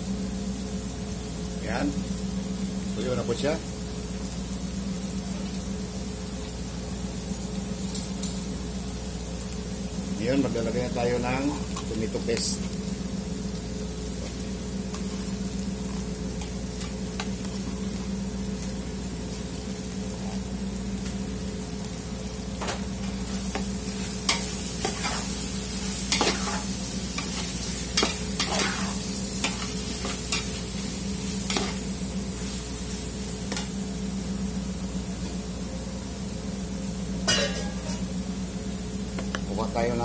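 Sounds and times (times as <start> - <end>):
meat sizzling in a pot: 0.0 - 40.0
steady low hum: 0.0 - 40.0.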